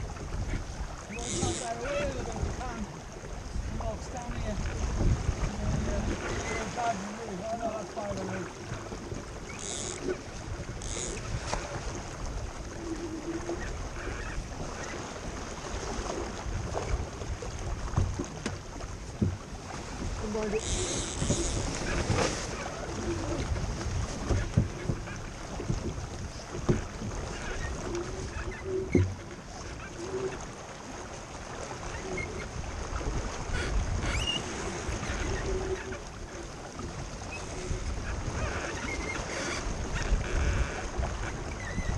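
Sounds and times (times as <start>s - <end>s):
wind buffeting microphone: 0.0s - 29.2s, 32.1s - 41.9s
water rushing along hull: 0.0s - 41.9s.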